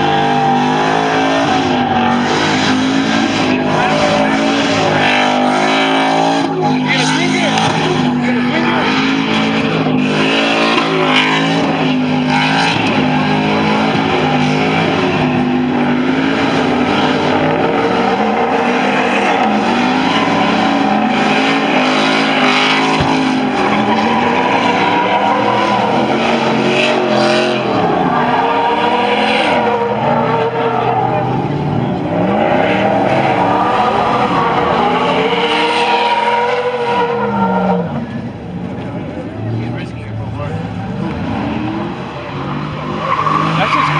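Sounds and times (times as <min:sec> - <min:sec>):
tires squealing: 0:00.0 - 0:43.9
truck engine revving: 0:00.0 - 0:43.9.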